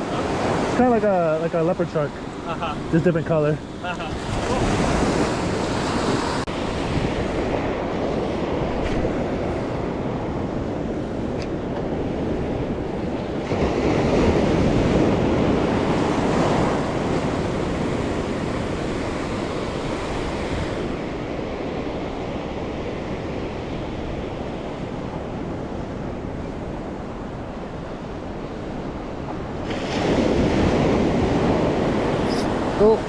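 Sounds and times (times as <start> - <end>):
ocean waves crashing: 0.0 - 33.0.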